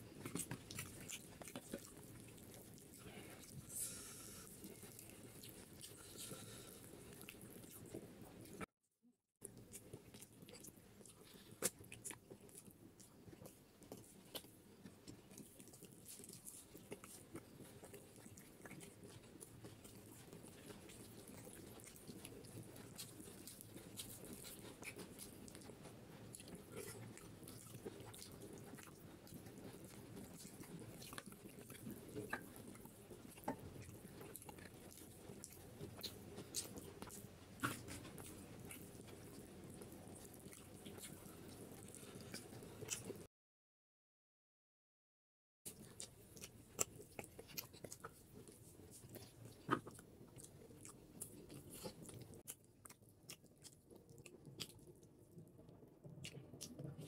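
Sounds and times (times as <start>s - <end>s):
man chewing: 0.0s - 8.6s, 9.4s - 43.3s, 45.7s - 55.1s.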